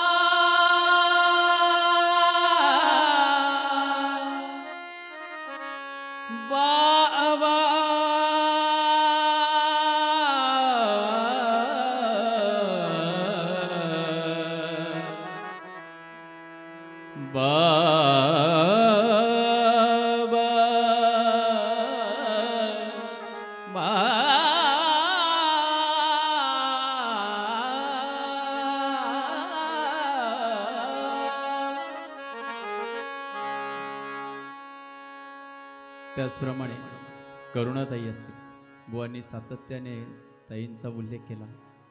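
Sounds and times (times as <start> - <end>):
harmonium melody: 0.0 - 41.9.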